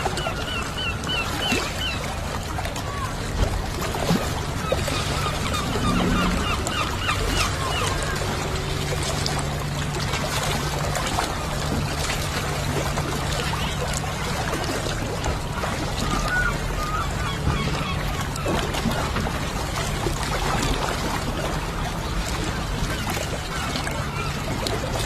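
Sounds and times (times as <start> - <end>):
water trickling and splashing: 0.0 - 25.0.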